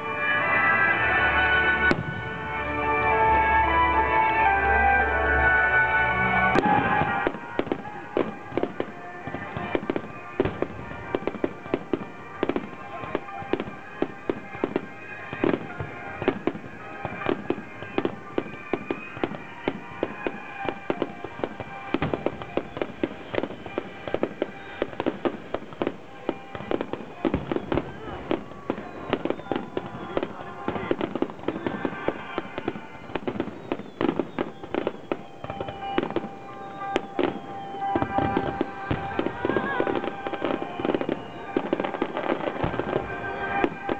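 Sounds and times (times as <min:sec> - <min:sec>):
fireworks popping and banging: 0:00.0 - 0:02.6, 0:06.5 - 0:43.9
firework crackling: 0:00.0 - 0:43.9.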